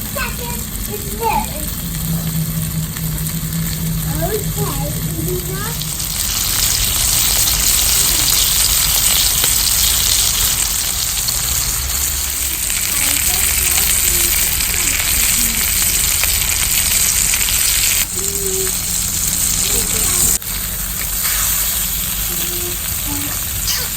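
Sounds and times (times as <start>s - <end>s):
chicken sizzling on hot stone: 0.0s - 23.9s.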